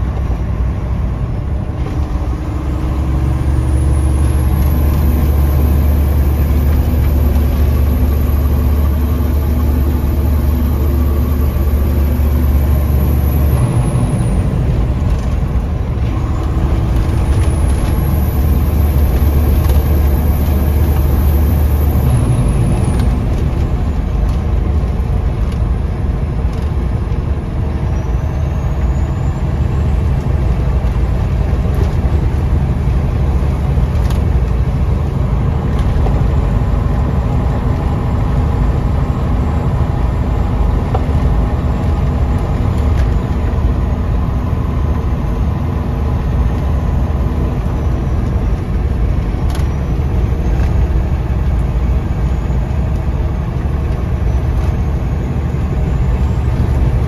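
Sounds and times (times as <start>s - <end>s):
diesel truck engine droning: 0.0s - 57.0s
road noise: 0.0s - 57.0s.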